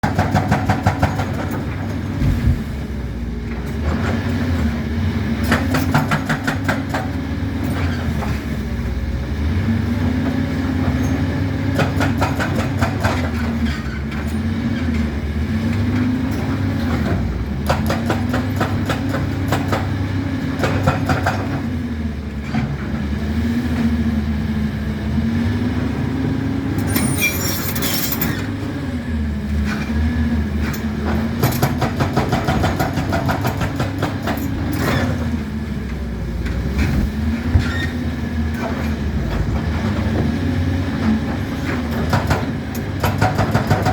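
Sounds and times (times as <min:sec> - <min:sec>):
excavator diesel engine under load: 0:00.0 - 0:43.9.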